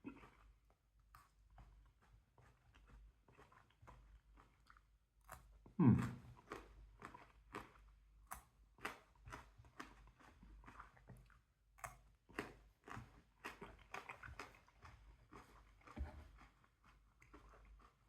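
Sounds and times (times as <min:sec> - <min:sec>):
chewing chilli: 0:00.0 - 0:18.0.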